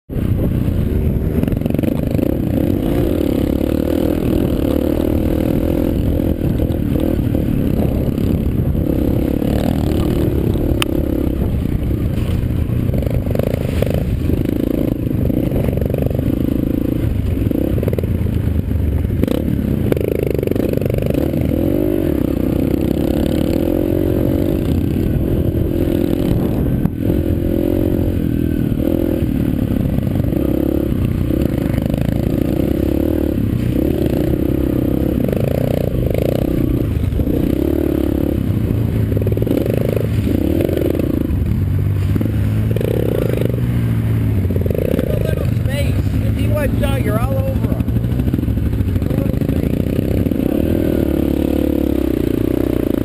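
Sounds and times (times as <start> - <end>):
dirt bike engine revving: 0.1 - 53.0.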